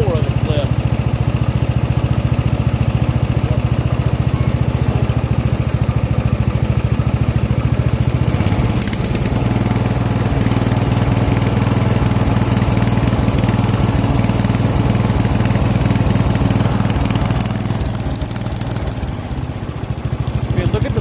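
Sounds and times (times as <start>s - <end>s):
mower engine running: 0.0s - 21.0s.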